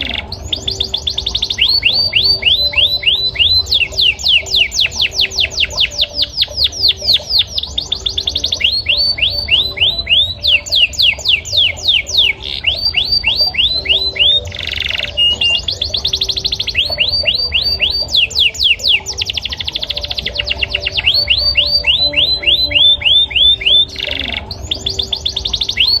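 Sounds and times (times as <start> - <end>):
canary singing whistled notes: 0.0 - 26.0
fast bird trill: 0.0 - 26.0
harsh buzzy bird notes: 0.0 - 26.0.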